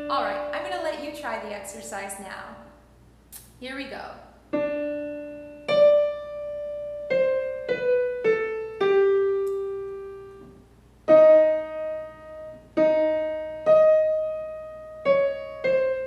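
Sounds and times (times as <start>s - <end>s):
piano notes and chords: 0.0s - 1.7s, 4.5s - 16.0s.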